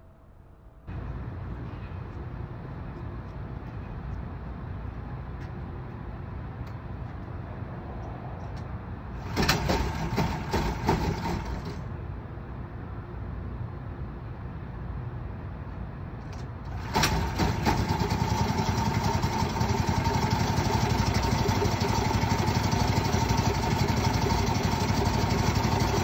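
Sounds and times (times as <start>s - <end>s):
engine low rumble: 0.0s - 26.0s.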